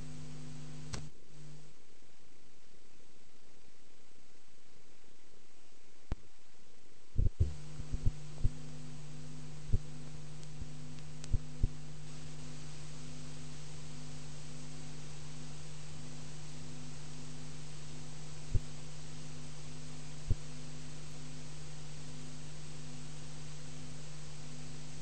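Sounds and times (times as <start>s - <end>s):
faint pulsing tone: 0.0s - 25.0s
low electrical hum with hiss: 0.0s - 25.0s.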